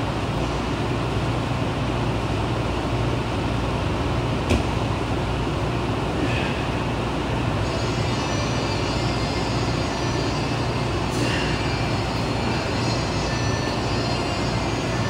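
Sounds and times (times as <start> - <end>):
fans rushing air with hum: 0.0 - 15.0.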